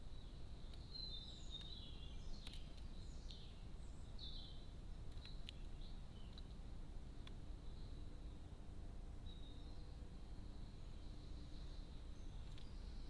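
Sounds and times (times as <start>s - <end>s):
faint high bird chirps: 0.0s - 6.6s, 7.6s - 8.6s, 9.2s - 13.0s
steady low hiss: 0.0s - 13.0s.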